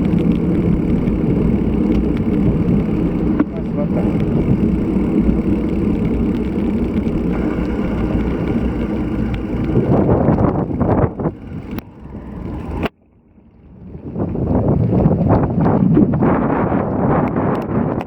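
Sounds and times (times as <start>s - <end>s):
wind buffeting microphone: 0.0s - 12.9s, 13.7s - 18.0s.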